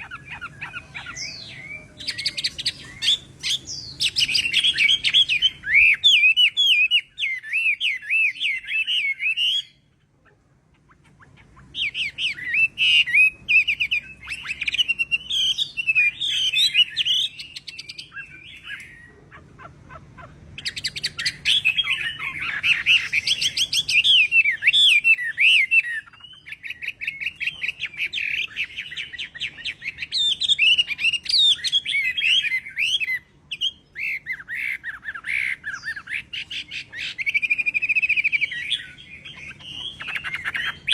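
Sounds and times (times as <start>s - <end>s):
bird warbling song: 0.0s - 40.9s.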